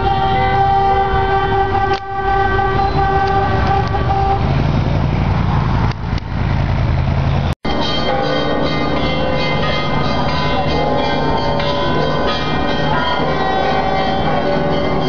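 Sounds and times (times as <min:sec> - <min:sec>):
car horns honking: 0:00.0 - 0:04.7, 0:07.6 - 0:15.0
car engines running: 0:00.0 - 0:15.0.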